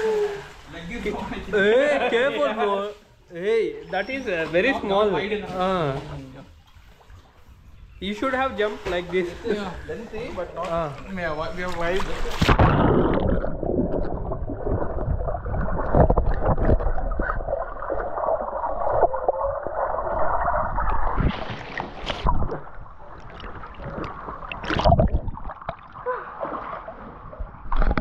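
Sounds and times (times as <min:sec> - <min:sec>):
pool water splashing and sloshing: 0:00.0 - 0:28.0.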